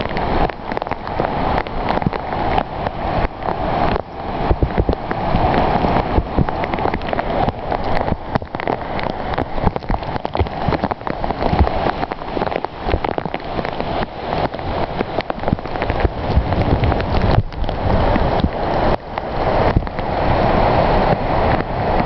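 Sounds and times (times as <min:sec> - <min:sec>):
heavy rain falling: 0:00.0 - 0:22.0
raindrops tapping on a surface: 0:00.0 - 0:22.0.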